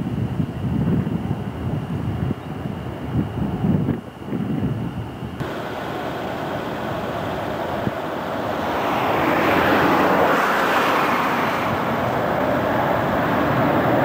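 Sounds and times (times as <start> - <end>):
jet airliner climbing overhead: 0.0 - 14.0.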